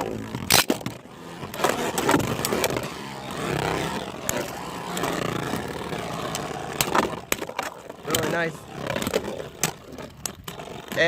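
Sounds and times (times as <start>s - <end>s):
spinning tops whirring and scraping: 0.0s - 11.0s.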